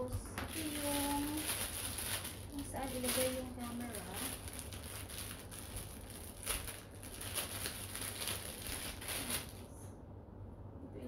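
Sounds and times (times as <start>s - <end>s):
plastic bag crinkling: 0.1s - 9.8s.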